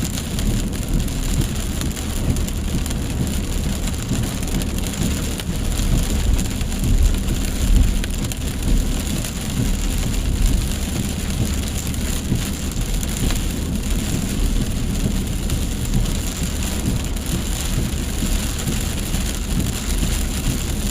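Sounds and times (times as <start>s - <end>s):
continuous low rumble: 0.0s - 20.9s
heavy rain: 0.0s - 20.9s.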